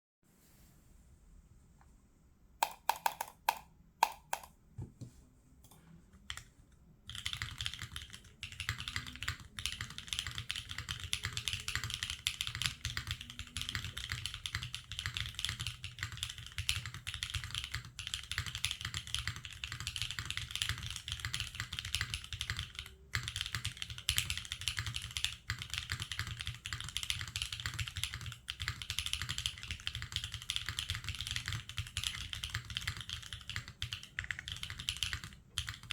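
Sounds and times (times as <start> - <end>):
clacky mechanical keyboard typing: 2.6 - 4.5, 7.1 - 35.9.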